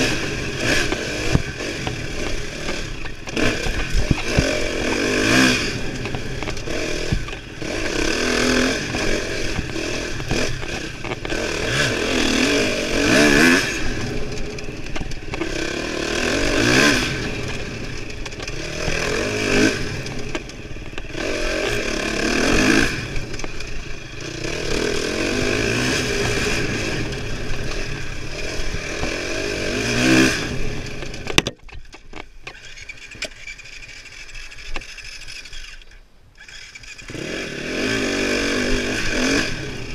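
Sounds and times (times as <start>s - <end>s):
dirt bike engine revving: 0.0s - 31.5s, 32.4s - 39.9s.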